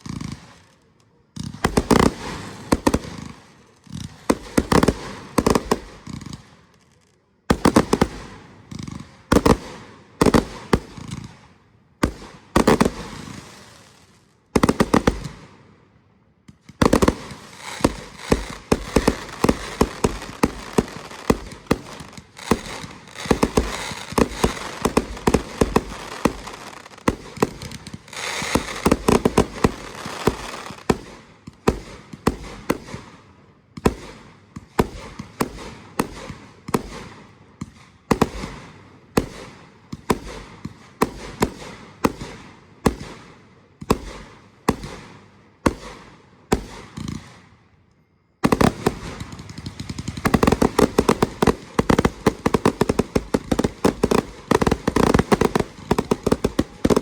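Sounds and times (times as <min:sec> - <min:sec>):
fireworks bangs and crackle: 0:00.0 - 0:47.7, 0:48.3 - 0:57.0.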